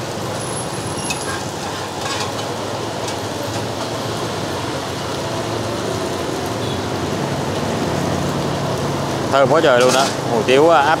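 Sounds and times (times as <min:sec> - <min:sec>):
noodles sizzling in a wok: 0:00.1 - 0:11.0.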